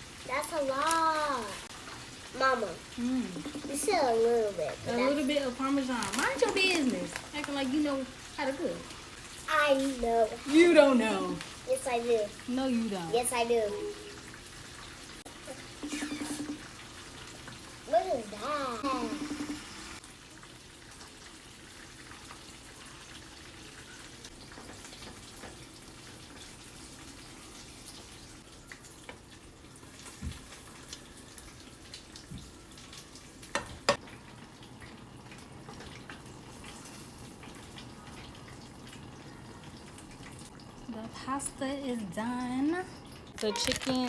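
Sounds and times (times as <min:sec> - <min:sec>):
chicken sizzling in oil: 0:00.0 - 0:43.6.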